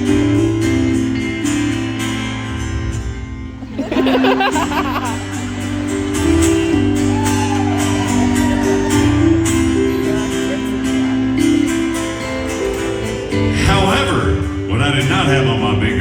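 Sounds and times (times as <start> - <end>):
country band playing: 0.0 - 16.0.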